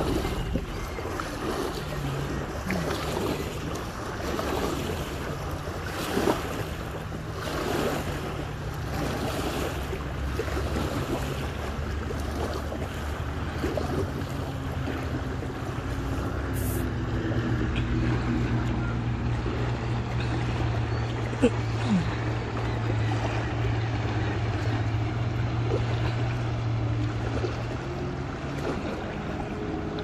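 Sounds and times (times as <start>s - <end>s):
small waves lapping: 0.0s - 30.0s.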